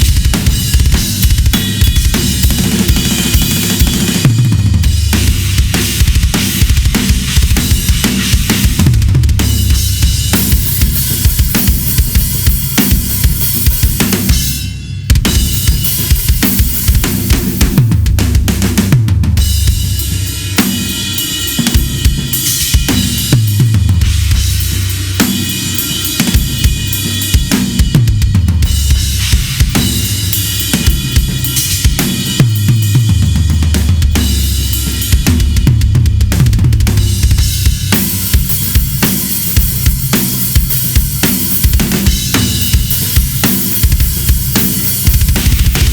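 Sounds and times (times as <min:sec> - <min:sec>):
drum kit playing: 0:00.0 - 0:45.9.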